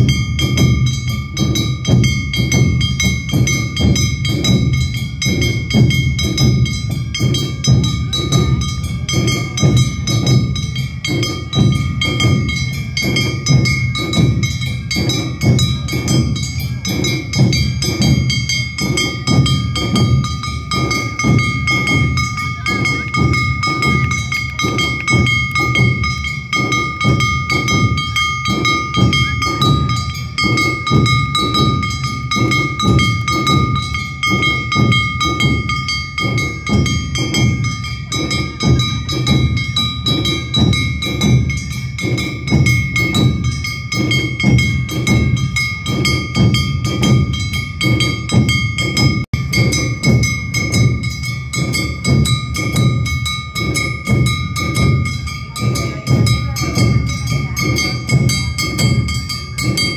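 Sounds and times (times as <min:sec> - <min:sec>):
taiko drums beating: 0:00.0 - 0:59.9.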